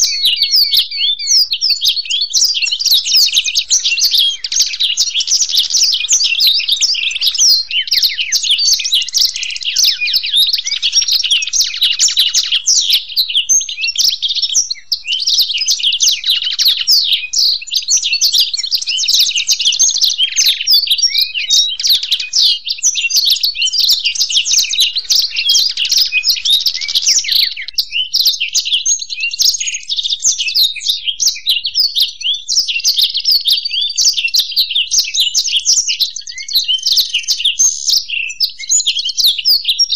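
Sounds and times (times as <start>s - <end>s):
birds twittering and trilling: 0.0s - 39.9s.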